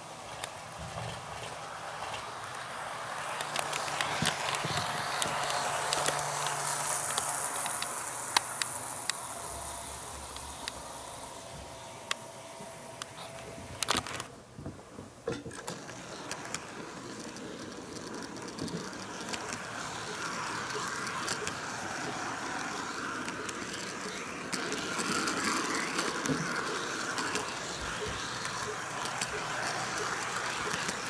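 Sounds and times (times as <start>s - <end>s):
model train wheels rattling: 0.0s - 14.3s, 15.3s - 31.0s
wheels clicking over rail joints: 0.0s - 31.0s.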